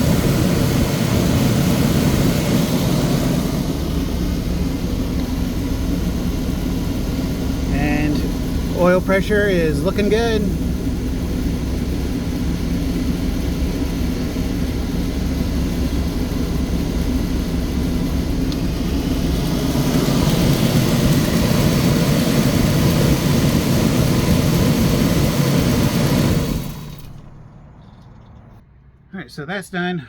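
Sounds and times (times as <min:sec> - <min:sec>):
engine idling: 0:00.0 - 0:28.6.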